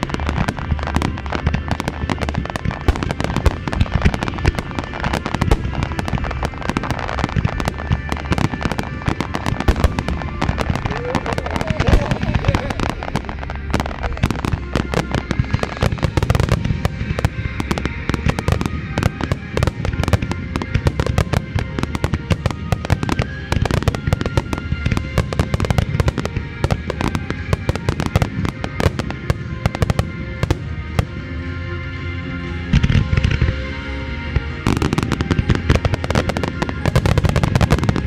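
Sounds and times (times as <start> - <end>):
music playing: 0.0 - 38.0.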